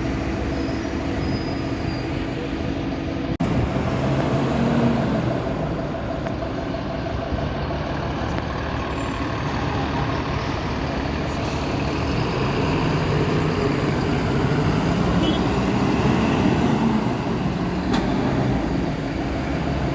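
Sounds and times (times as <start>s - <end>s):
diesel engines droning: 0.0s - 19.9s
traffic noise: 0.0s - 19.9s.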